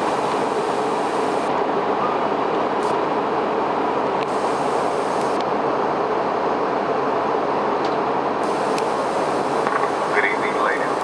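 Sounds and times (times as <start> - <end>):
airliner cabin noise: 0.0 - 11.0.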